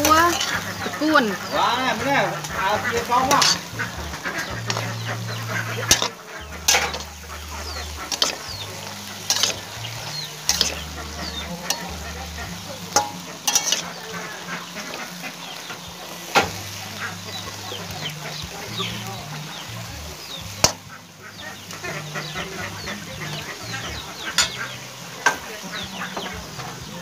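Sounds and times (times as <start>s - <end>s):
spatula scraping a pan: 0.0s - 19.5s, 20.5s - 25.5s
meat and greens sizzling in a wok: 0.0s - 27.0s.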